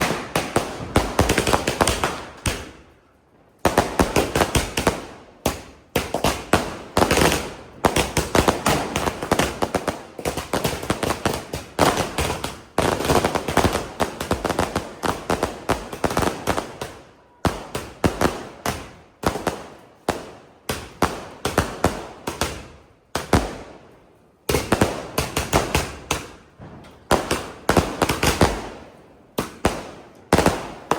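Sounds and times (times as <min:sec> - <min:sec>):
firework bangs with crackle: 0:00.0 - 0:02.9, 0:03.6 - 0:23.8, 0:24.5 - 0:30.9.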